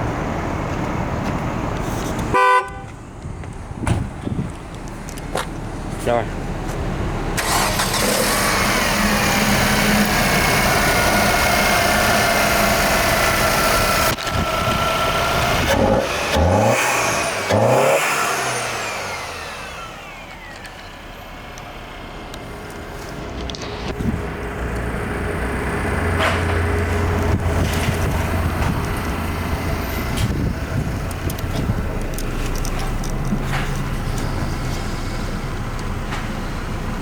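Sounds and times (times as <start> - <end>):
car engine running: 5.3 - 37.0
engine whine winding down: 7.3 - 37.0.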